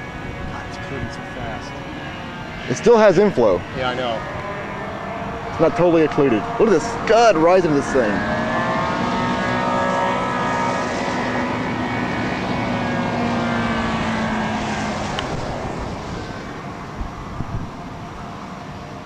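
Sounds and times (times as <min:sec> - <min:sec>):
engine droning hum: 0:00.0 - 0:19.0.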